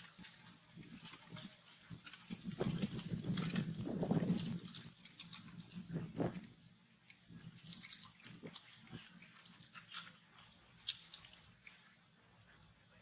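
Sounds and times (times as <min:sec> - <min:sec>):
crunching and crackling clicks: 0:00.0 - 0:12.0.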